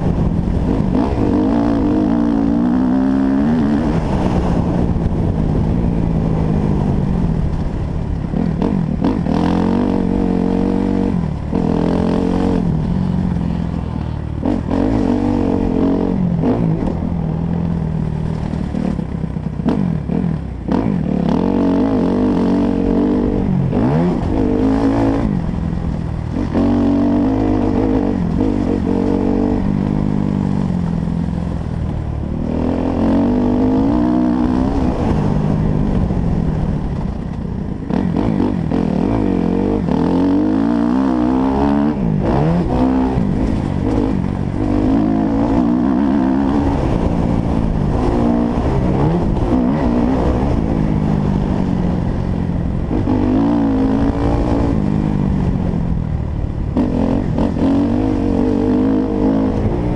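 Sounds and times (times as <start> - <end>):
dirt bike engine revving: 0.0 - 17.3, 18.3 - 25.6, 26.3 - 31.3, 32.3 - 36.6, 37.9 - 52.2, 52.8 - 55.5, 56.7 - 59.9.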